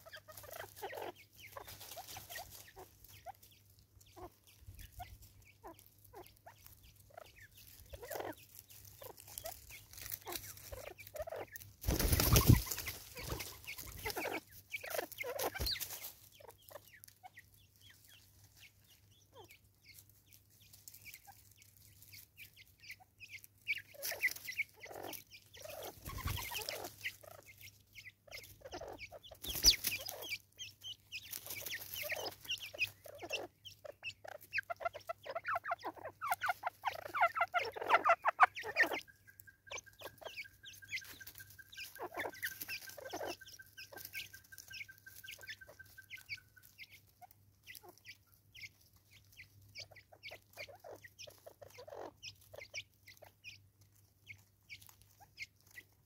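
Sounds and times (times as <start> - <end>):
soft fowl clucking: 0.0 - 56.0.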